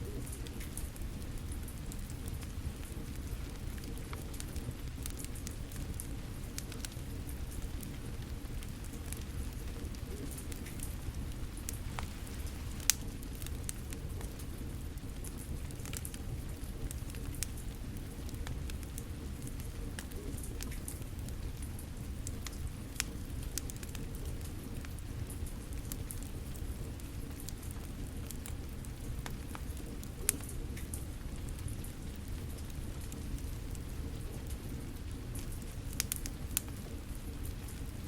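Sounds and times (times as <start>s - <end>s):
fire crackling: 0.0s - 38.0s
steady rain falling: 0.0s - 38.0s.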